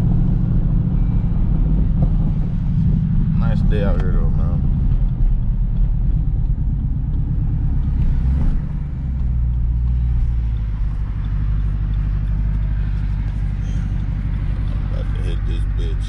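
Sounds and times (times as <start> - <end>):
engine droning while driving: 0.0 - 16.0.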